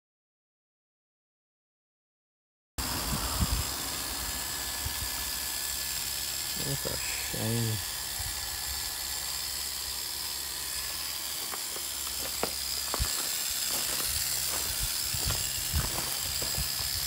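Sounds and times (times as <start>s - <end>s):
handheld polisher whining: 2.8s - 17.0s.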